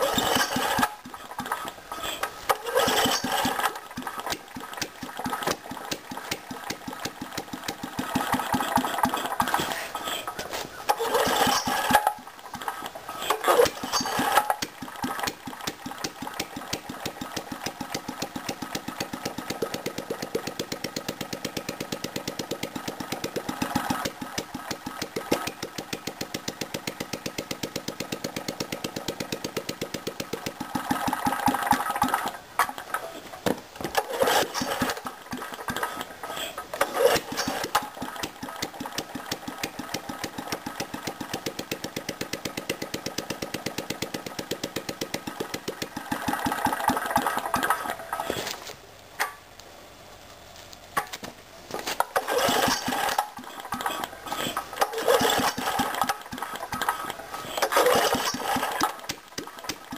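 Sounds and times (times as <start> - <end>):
single-cylinder engine running: 0.0 - 48.3, 52.0 - 59.9.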